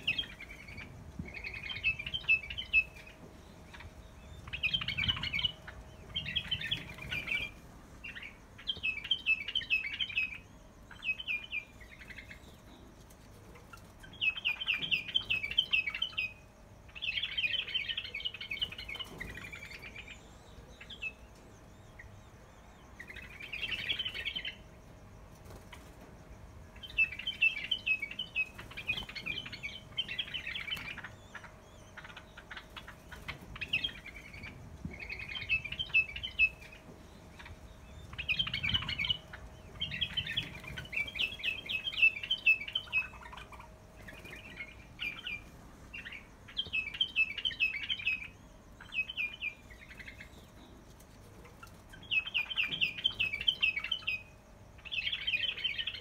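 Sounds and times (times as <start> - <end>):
cage birds chirping: 0.0 - 56.0.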